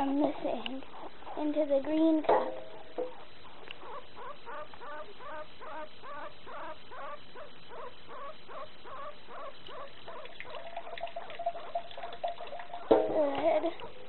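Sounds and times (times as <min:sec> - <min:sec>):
steady tone with light clatter: 0:00.0 - 0:14.0
guinea pig wheeking: 0:00.8 - 0:02.2, 0:02.8 - 0:14.0.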